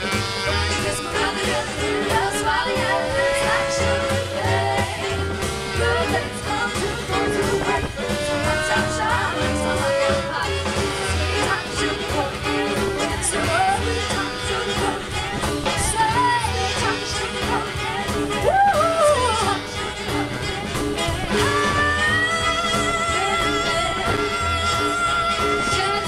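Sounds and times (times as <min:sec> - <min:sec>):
swing band playing: 0:00.0 - 0:26.0
women singing in close harmony: 0:00.4 - 0:26.0.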